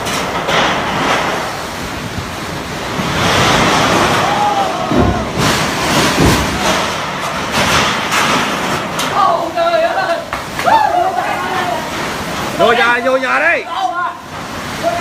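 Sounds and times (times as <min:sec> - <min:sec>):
storm wind gusting: 0:00.0 - 0:13.0.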